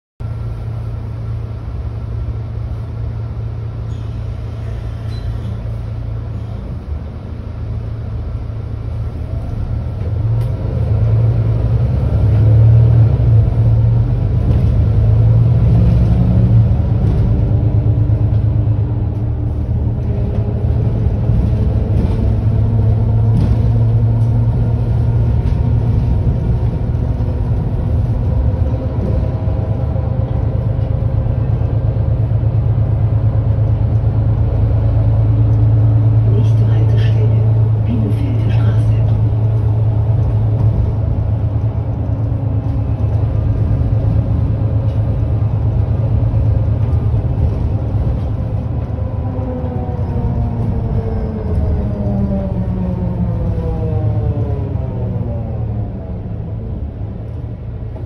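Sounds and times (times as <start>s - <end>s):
bus diesel engine idling: 0.2s - 58.0s.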